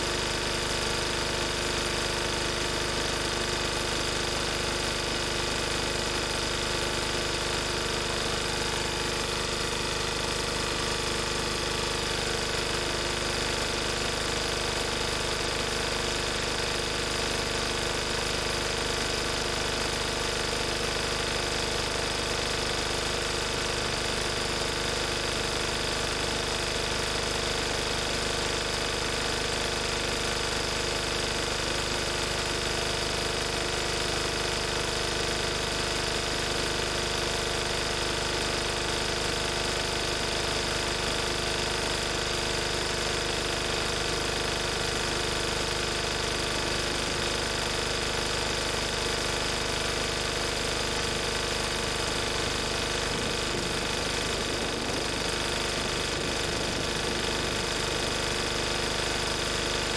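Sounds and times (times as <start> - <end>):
diesel generator engine running: 0.0 - 59.9.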